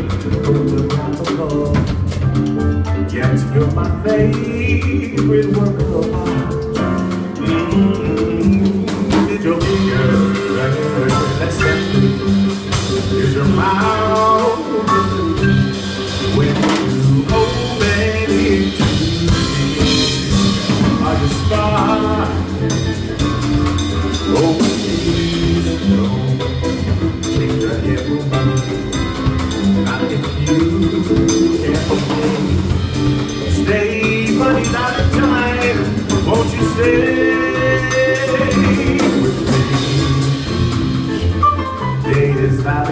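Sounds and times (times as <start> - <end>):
drums keeping time: 0.0 - 42.9
jazz combo playing: 0.0 - 42.9
walking bass line: 0.0 - 42.9.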